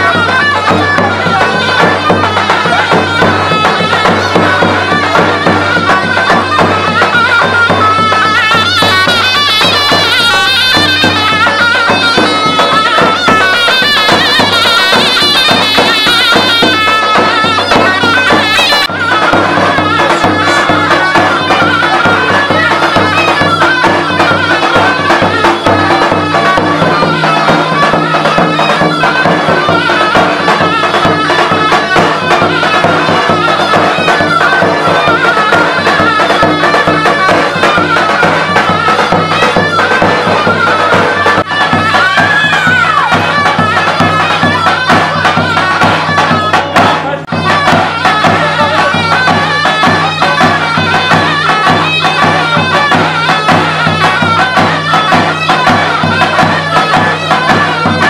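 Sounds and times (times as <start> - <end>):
folk dance wind instrument melody: 0.0 - 58.0.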